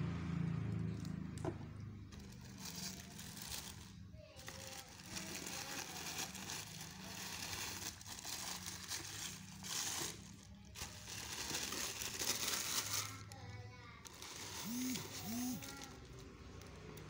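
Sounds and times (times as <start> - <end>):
tissue paper crinkling: 2.1 - 17.0.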